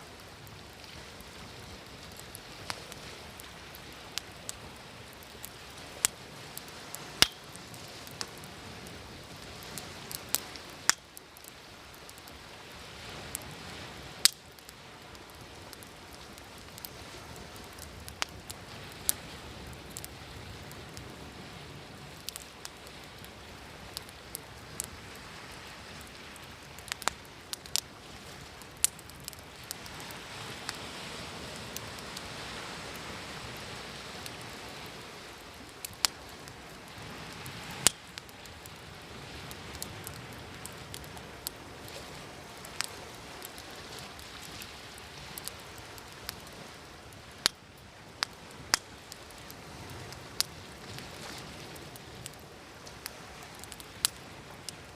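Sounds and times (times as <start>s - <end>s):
sea waves: 0.0s - 54.9s
wood fire crackling: 0.0s - 54.9s.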